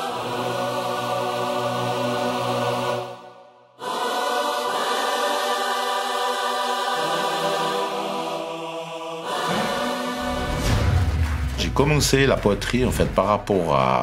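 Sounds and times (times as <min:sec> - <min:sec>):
choir singing held notes: 0:00.0 - 0:11.4.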